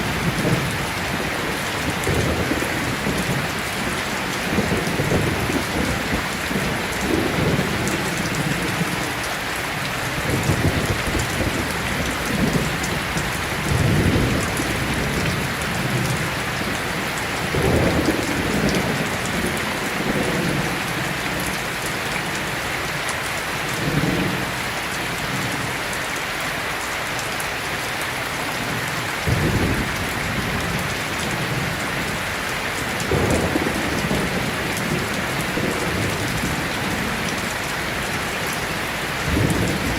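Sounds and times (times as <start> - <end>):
low rumbles of thunder: 0.0 - 9.1, 10.1 - 22.6, 28.6 - 39.9
heavy rain hissing: 0.0 - 39.9.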